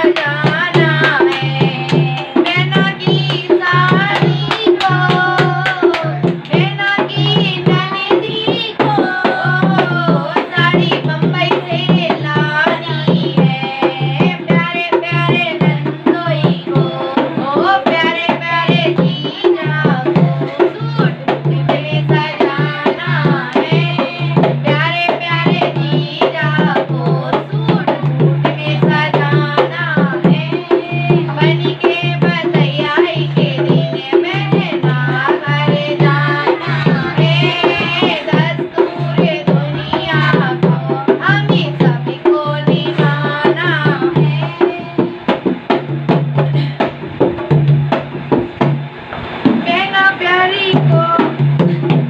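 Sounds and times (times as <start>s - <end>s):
women singing folk song: 0.0s - 45.5s, 49.6s - 52.0s
hand drum beat: 0.0s - 52.0s.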